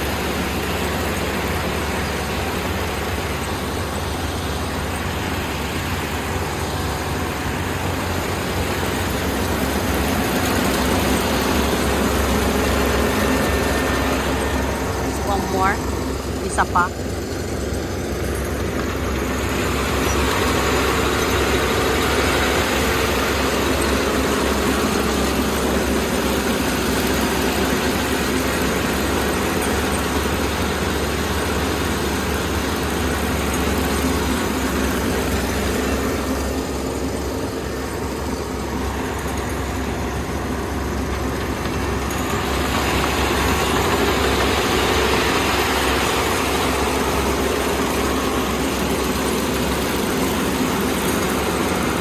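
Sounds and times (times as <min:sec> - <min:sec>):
diesel engine humming: 0:00.0 - 0:52.0.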